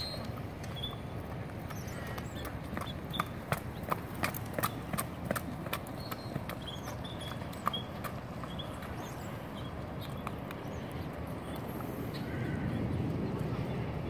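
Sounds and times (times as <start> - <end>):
horse hoofbeats on dirt: 0.0 - 11.9.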